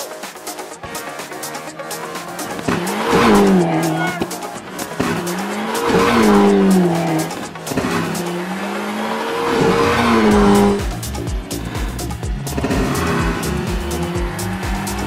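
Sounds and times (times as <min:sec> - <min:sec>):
low thumping beat: 0:00.0 - 0:08.4, 0:10.0 - 0:15.0
rally car engine passing: 0:00.8 - 0:15.0.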